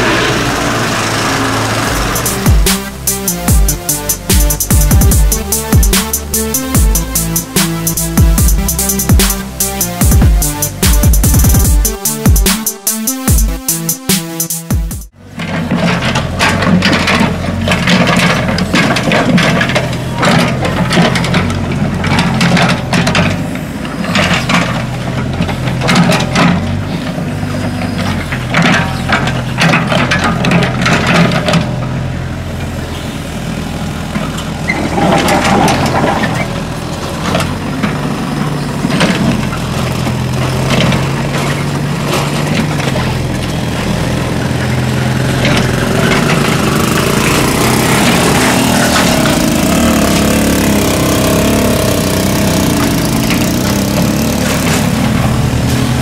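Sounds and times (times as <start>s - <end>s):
excavator diesel engine running: 0.0s - 56.0s
motorcycle engine: 0.0s - 56.0s.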